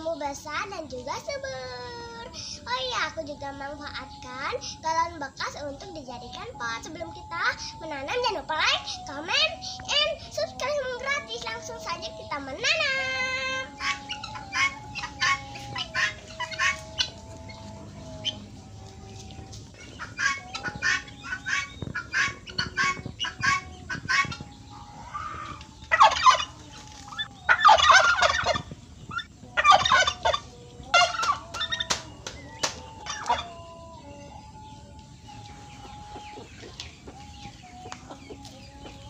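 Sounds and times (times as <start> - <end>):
fowl calling: 6.6 - 39.0.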